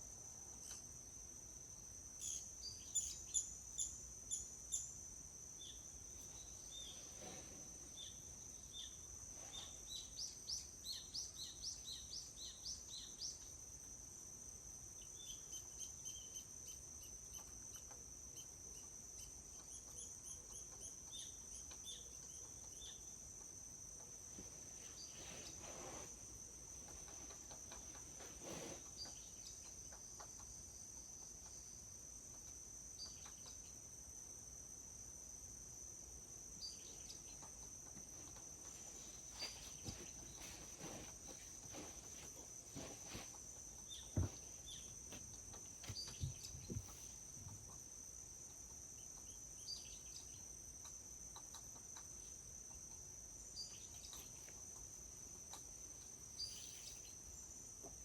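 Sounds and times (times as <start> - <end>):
insect chorus trilling: 0.4 - 7.1, 14.8 - 25.6, 26.2 - 58.0.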